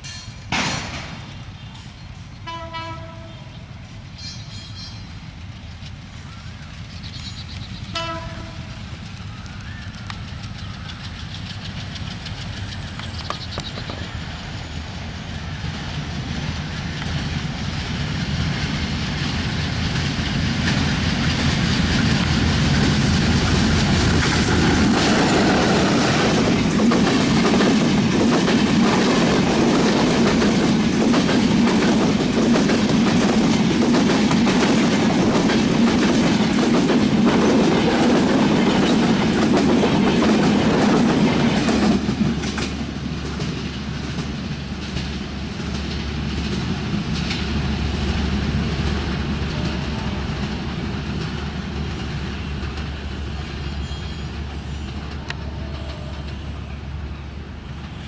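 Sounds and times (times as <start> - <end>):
train wheels clattering on rails: 0.0 - 56.6
train rumble and low hum: 0.0 - 58.0.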